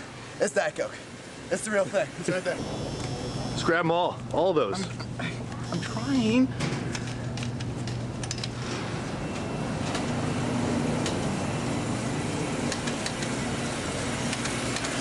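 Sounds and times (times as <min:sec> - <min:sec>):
coolers humming: 0:00.0 - 0:15.0.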